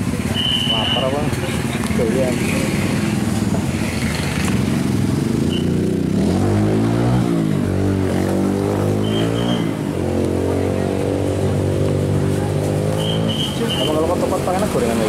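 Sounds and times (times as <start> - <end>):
motorcycle engines in traffic: 0.0 - 15.0
motorcycle passing close by: 0.9 - 15.0.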